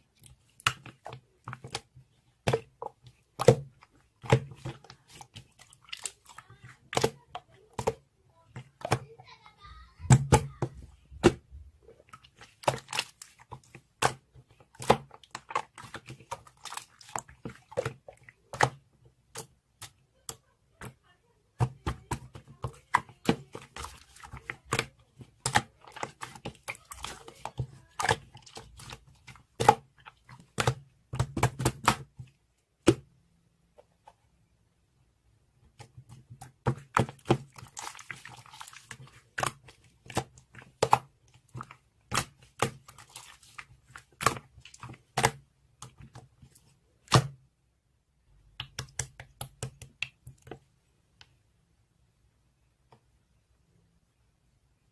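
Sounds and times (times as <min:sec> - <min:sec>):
slime squishing with clicks and pops: 0:00.0 - 0:09.1, 0:10.0 - 0:34.2, 0:35.5 - 0:47.6, 0:48.2 - 0:51.5.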